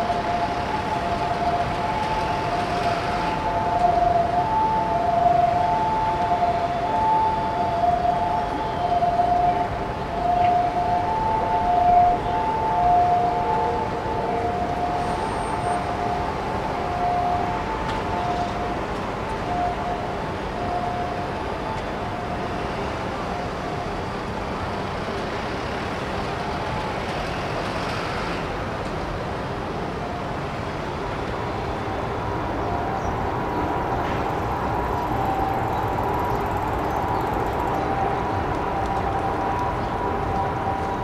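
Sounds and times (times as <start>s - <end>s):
traffic hum: 0.0s - 41.0s.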